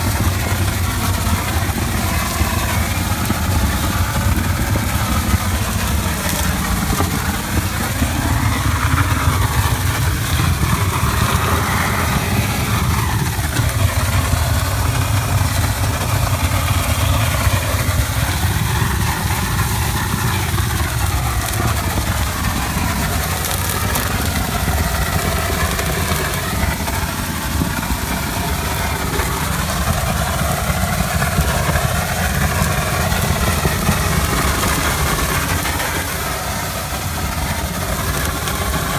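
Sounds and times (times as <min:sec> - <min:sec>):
engine low rumble: 0:00.0 - 0:38.9
hiss: 0:00.0 - 0:38.9.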